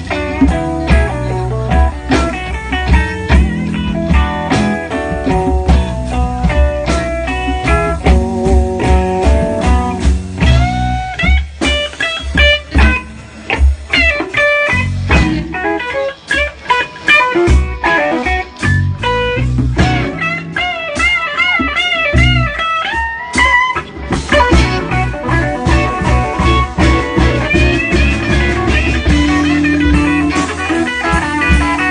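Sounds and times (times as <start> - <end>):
bass: 0.0 - 31.9
drum beat: 0.0 - 31.9
lead electric guitar: 0.0 - 31.9.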